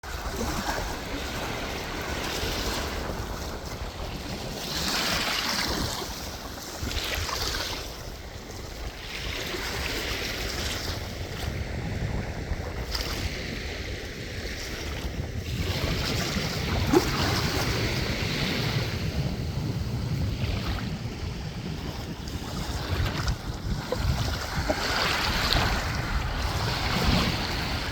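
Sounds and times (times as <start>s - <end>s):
sea waves washing ashore: 0.0s - 27.9s
wind rumbling on microphone: 0.0s - 27.9s.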